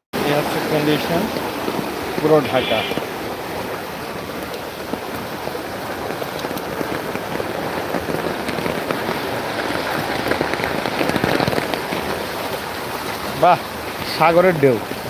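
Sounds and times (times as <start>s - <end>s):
floodwater splashing and sloshing: 0.2s - 15.0s.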